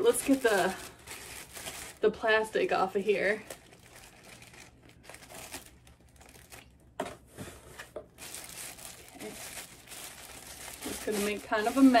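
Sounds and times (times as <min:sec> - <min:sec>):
plastic bag crinkling: 0:00.0 - 0:06.8, 0:08.1 - 0:12.0.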